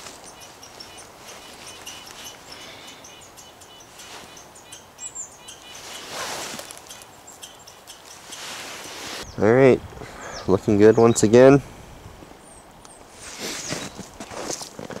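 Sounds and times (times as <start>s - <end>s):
rustle of branches: 0.0s - 9.3s, 12.2s - 15.0s
small birds chirping: 0.0s - 11.6s, 12.4s - 14.2s.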